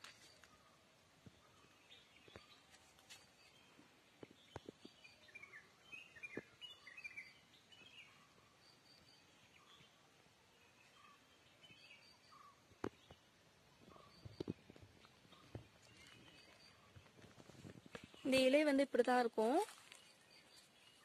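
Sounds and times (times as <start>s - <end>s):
faint birdsong: 0.0s - 21.0s.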